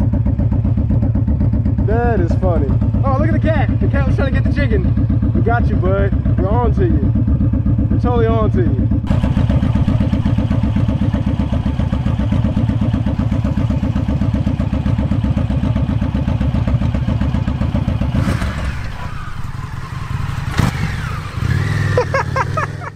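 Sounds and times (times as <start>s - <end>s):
motorcycle engine pulsing: 0.0s - 22.9s.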